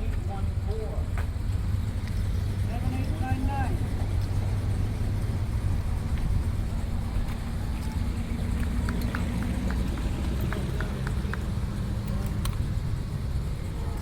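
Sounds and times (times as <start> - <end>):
car engine idling: 0.0 - 14.0
steady hum: 0.0 - 14.0.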